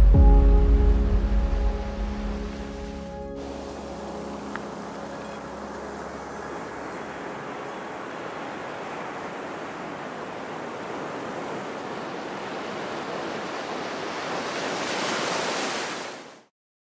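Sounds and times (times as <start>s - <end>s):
surf breaking on a beach: 0.7s - 16.5s.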